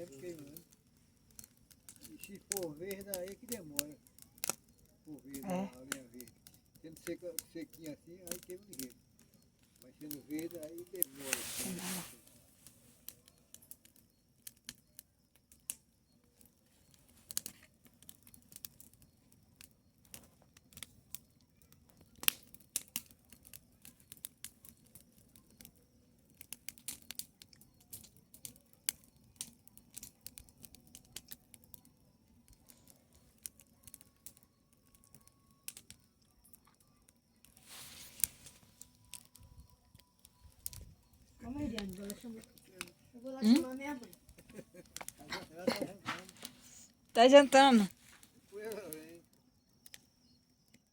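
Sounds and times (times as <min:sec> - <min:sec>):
bonfire crackling: 0:00.0 - 0:50.9.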